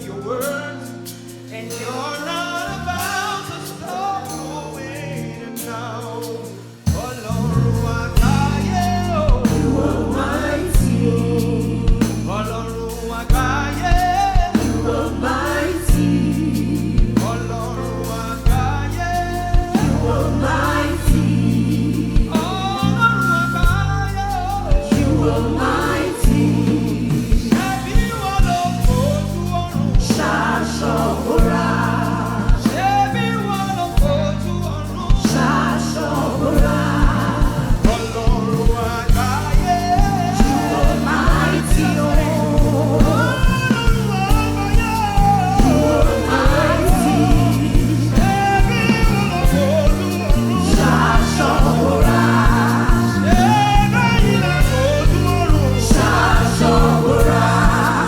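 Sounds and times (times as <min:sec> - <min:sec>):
people singing gospel: 0:00.0 - 0:58.0
bass notes: 0:06.9 - 0:58.0
steady drum beat: 0:06.9 - 0:58.0.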